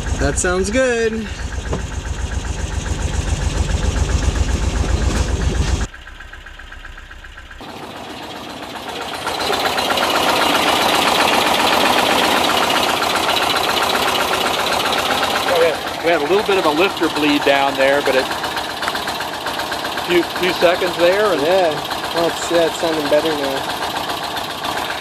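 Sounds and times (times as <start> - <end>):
engine idling with low beat: 0.0 - 25.0
engine running rough: 0.0 - 25.0.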